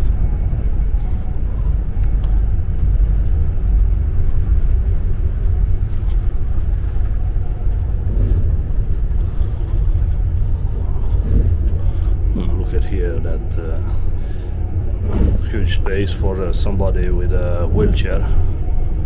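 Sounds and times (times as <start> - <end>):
train rumbling at speed: 0.0 - 19.0.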